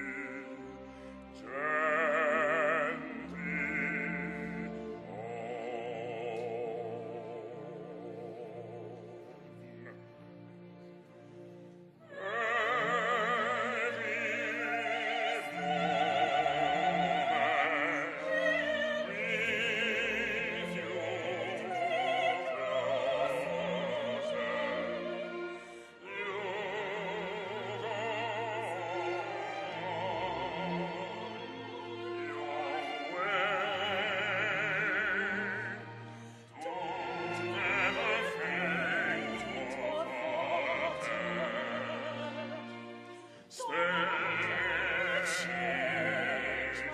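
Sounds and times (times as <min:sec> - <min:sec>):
operatic singing: 0:00.0 - 0:46.9.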